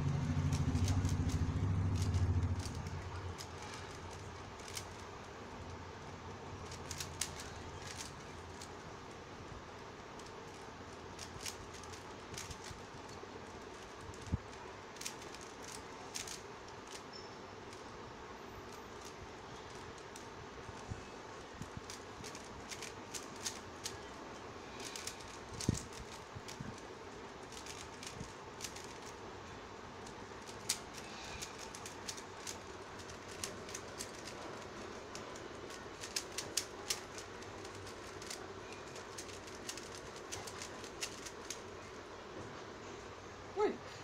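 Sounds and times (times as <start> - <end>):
faint steady hiss: 0.0 - 44.0
puzzle cube plastic clicks: 0.2 - 5.1, 6.6 - 8.8, 10.1 - 17.8, 18.7 - 29.2, 30.0 - 41.8.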